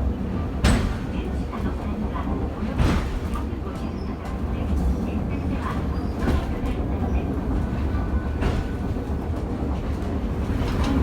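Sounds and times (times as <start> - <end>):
wheels rumbling on rail: 0.0 - 11.0.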